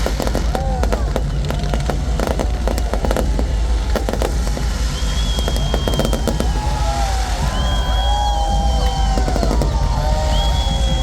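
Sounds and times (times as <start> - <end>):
deep rumble: 0.0 - 11.0
fireworks crackling and popping: 0.0 - 11.0.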